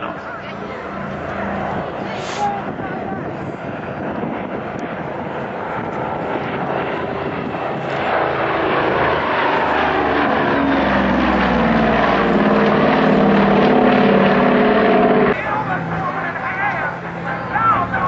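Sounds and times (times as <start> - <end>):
propeller airplane engine running: 0.0 - 18.0.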